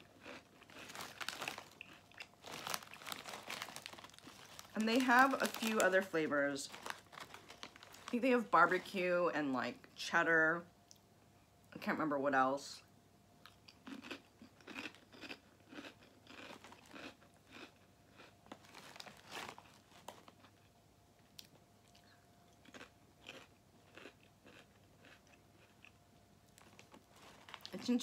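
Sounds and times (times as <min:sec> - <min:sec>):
person chewing crisp chips: 0:00.0 - 0:09.0, 0:13.4 - 0:28.0.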